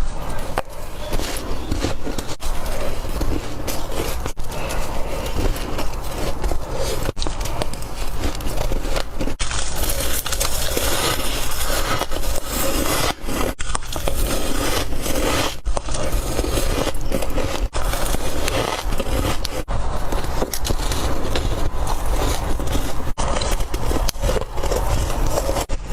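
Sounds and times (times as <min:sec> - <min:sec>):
ice being crunched and chewed: 0:00.2 - 0:25.9.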